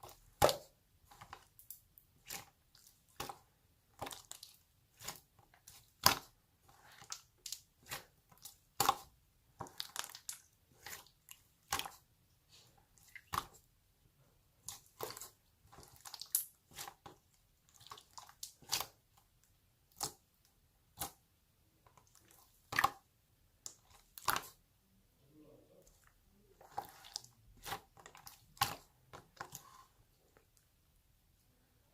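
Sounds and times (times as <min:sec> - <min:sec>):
slime squishing with wet pops: 0:00.0 - 0:13.8, 0:14.5 - 0:24.7, 0:25.8 - 0:30.8.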